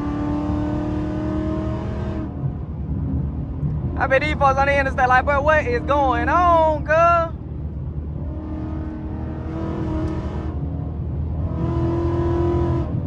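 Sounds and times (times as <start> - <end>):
car engine at highway speed: 0.0 - 13.0.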